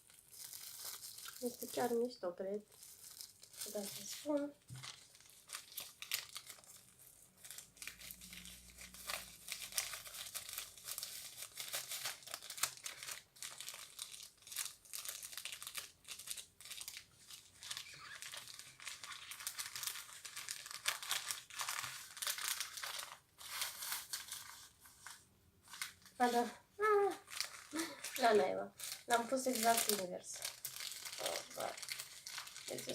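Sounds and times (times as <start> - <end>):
plastic packaging crinkling: 0.0 - 32.9.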